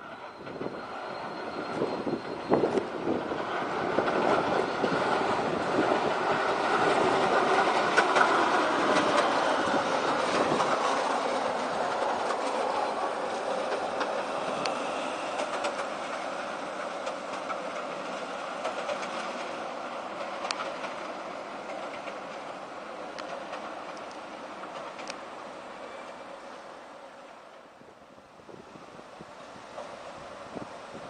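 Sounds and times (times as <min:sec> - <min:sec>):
tram rolling past: 0:00.0 - 0:31.0.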